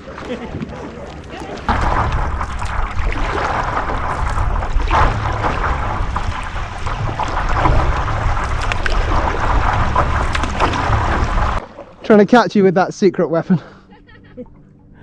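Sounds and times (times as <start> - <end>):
water splashing and lapping: 0.0 - 12.6.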